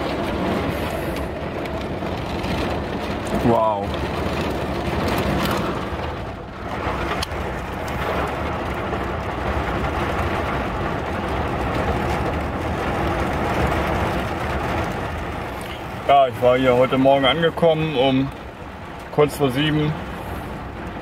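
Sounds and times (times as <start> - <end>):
heavy rain on truck cab: 0.0 - 21.0.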